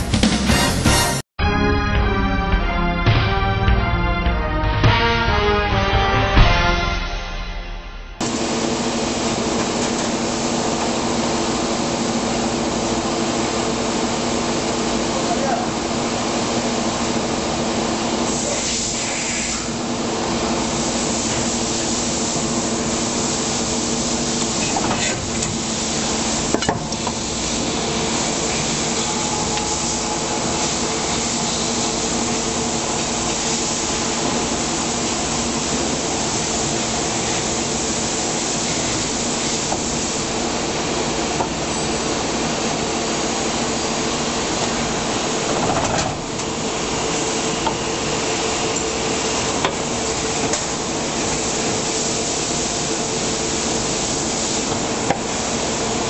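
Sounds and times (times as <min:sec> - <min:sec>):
injection moulding machine humming: 0:08.2 - 0:56.0.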